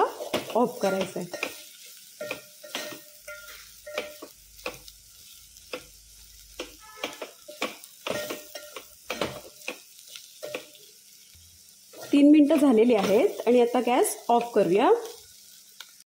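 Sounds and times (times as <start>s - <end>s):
soft sizzle: 0.0s - 16.0s.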